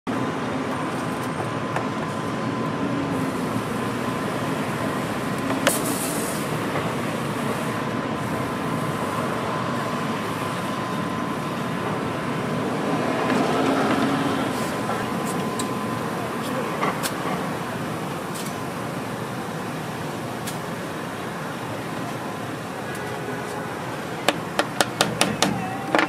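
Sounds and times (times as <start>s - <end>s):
street food stall background noise: 0.1s - 26.0s.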